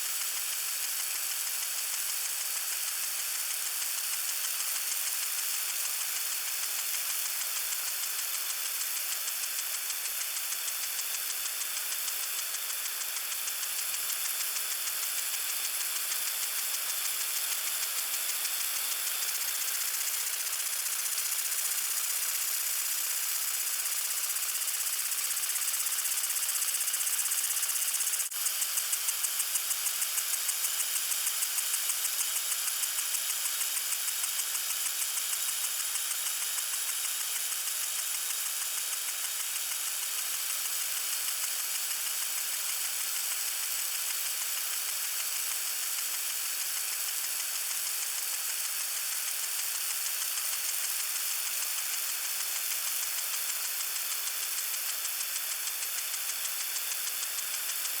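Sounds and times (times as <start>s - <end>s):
lawn sprinkler hissing and ticking: 0.0s - 58.0s.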